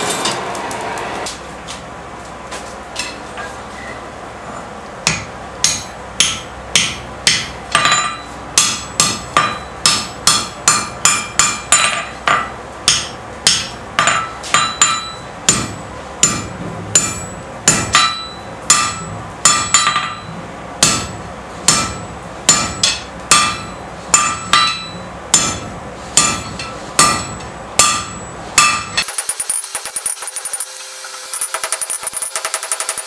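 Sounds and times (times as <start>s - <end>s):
hammer ringing on anvil: 5.1s - 33.0s.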